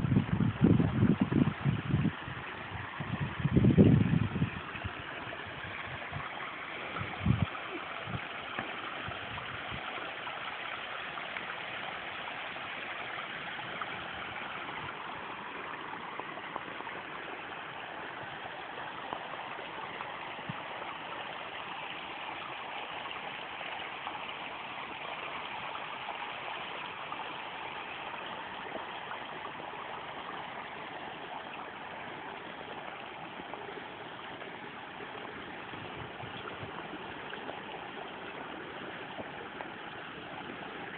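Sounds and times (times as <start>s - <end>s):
water pouring over waterfall: 0.0s - 40.9s.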